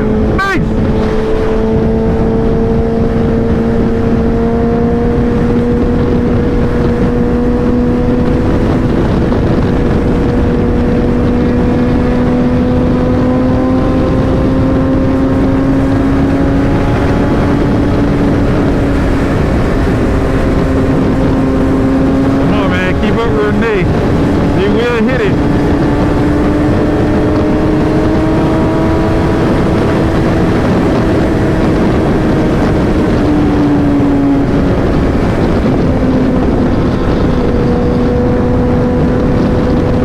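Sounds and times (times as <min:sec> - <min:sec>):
motorcycle engine cruising: 0:00.0 - 0:40.0.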